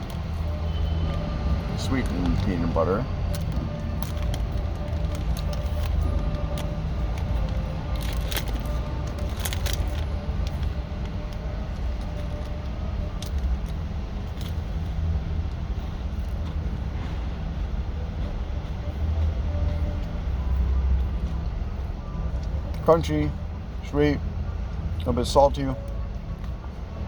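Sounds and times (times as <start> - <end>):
low rumble: 0.0 - 22.8.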